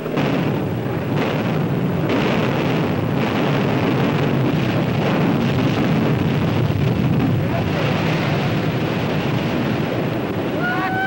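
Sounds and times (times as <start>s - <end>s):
sharp cracks: 0.0s - 10.6s
rumbling roar of building collapse: 0.0s - 11.0s.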